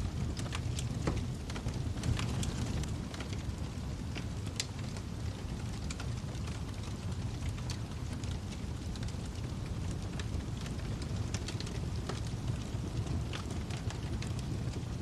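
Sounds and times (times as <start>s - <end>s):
fireplace fire crackling and popping: 0.0s - 15.0s
low rush of flames: 0.0s - 15.0s.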